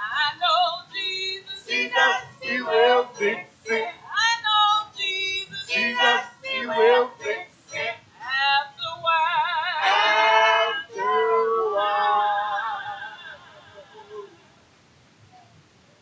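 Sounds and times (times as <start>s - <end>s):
women singing into microphones: 0.0s - 14.4s.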